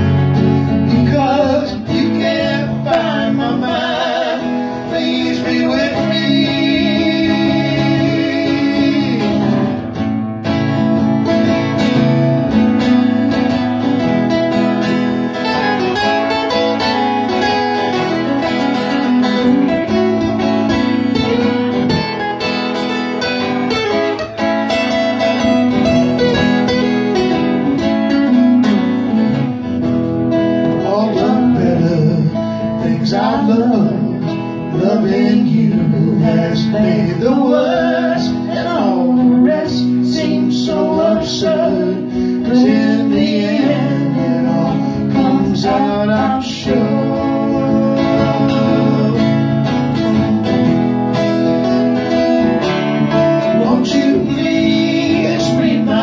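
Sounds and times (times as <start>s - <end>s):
acoustic guitars playing: 0.0s - 56.0s.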